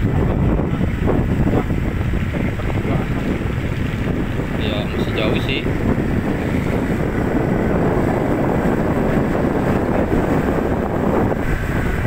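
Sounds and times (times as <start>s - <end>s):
wind rushing over microphone: 0.0s - 12.0s
vehicle engine: 2.3s - 12.0s.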